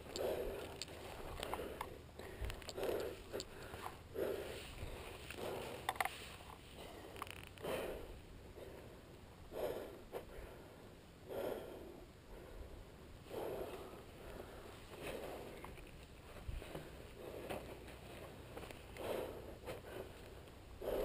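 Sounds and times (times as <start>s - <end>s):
heavy breathing in helmet: 0.0s - 15.8s, 16.4s - 21.0s.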